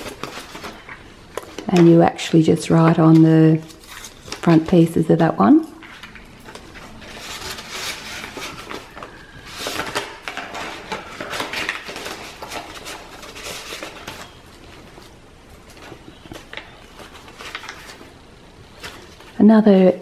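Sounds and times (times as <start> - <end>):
paper pages rustling: 0.0 - 4.9, 5.8 - 19.4.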